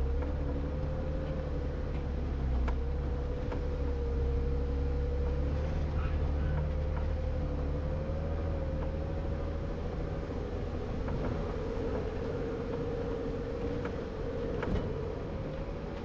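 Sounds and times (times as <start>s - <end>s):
car engine rumbling with whine: 0.0s - 16.0s.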